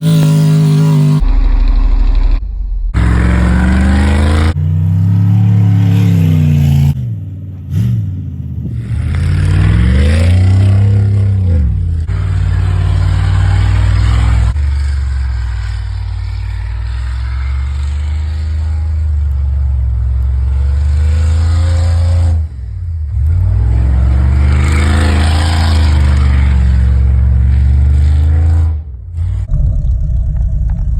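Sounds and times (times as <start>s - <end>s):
truck engine revving: 0.0s - 30.9s.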